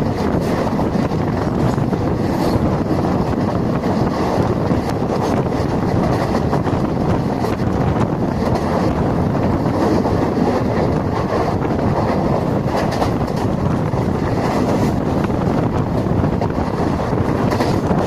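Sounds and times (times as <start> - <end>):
train wheels rumbling on rails: 0.0 - 18.0
wind buffeting microphone: 0.0 - 18.0.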